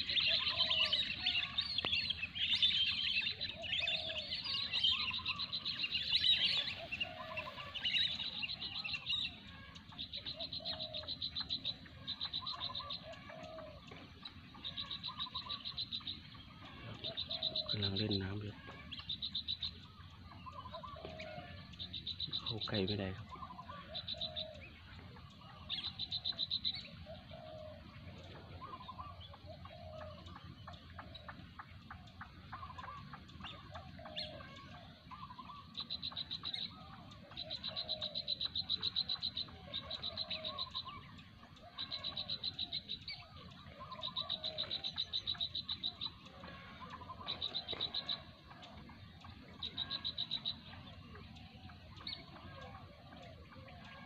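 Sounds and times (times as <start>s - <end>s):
frogs trilling: 0.0s - 54.0s
soft low frog calls: 0.0s - 54.0s.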